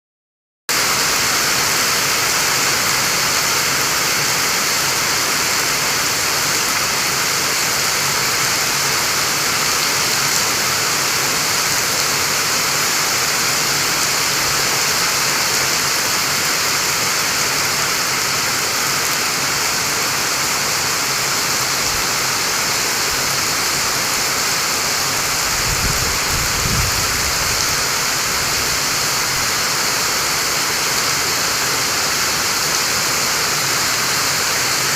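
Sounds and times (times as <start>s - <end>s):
torrential rain pouring: 0.7s - 34.9s.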